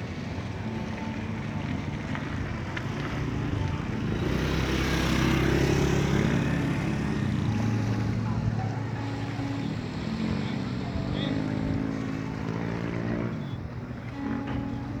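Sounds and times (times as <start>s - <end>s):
motor engine humming: 0.0s - 15.0s.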